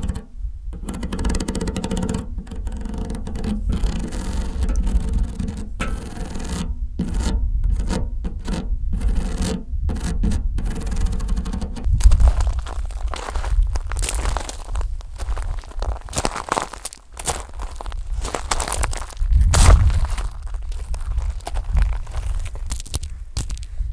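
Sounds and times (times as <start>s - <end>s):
fingernails scratching a surface: 0.0s - 22.9s.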